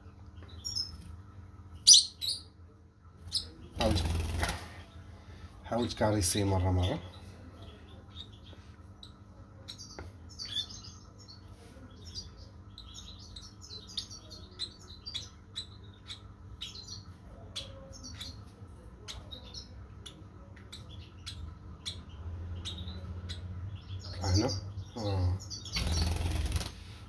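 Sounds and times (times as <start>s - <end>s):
bird chirping: 0.0s - 26.7s.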